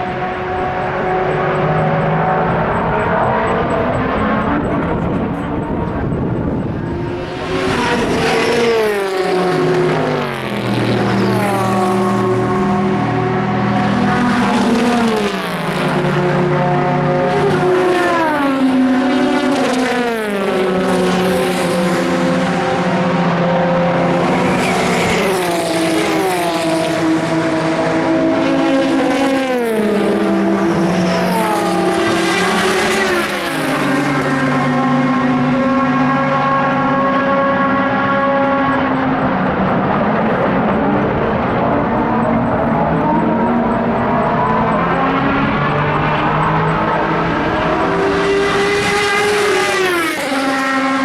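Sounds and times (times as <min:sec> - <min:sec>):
race cars passing: 0:00.0 - 0:51.0.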